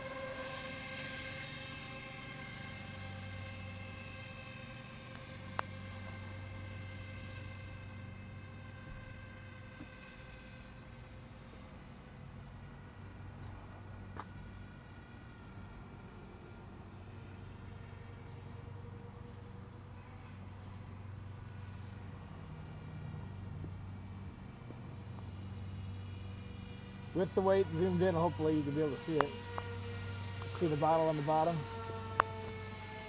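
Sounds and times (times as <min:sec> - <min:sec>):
model plane motor whine: 0:00.0 - 0:33.0.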